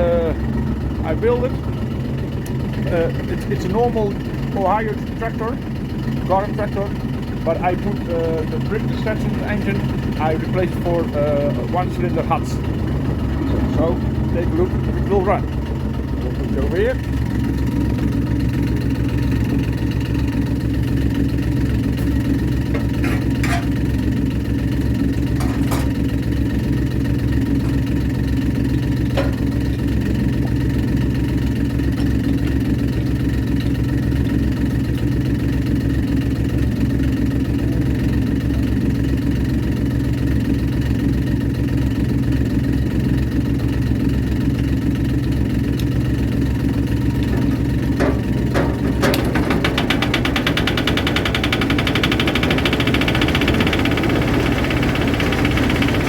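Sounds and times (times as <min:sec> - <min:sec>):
diesel engine idling: 0:00.0 - 0:56.0
engine starting with rattling beat: 0:00.0 - 0:56.0.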